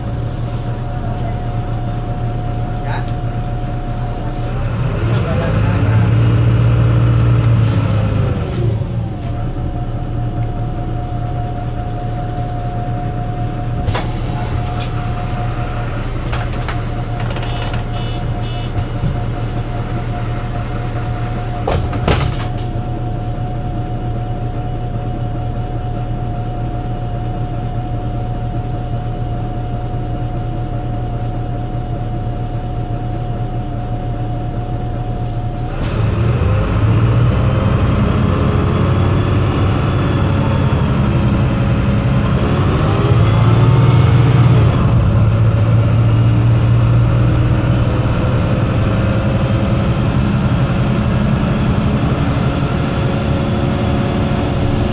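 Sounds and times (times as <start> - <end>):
bus diesel engine idling: 0.0 - 54.9.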